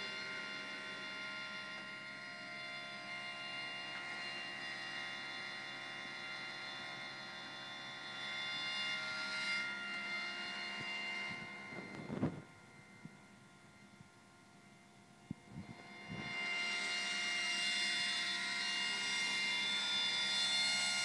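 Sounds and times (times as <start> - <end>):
gear motors whining: 0.0 - 21.0.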